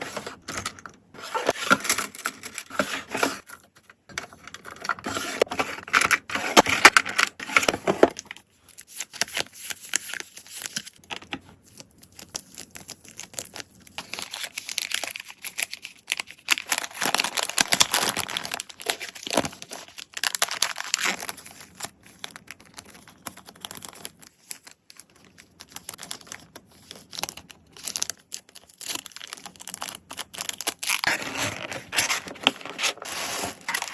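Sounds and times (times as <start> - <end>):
plastic and paper crinkling: 0.0 - 33.9.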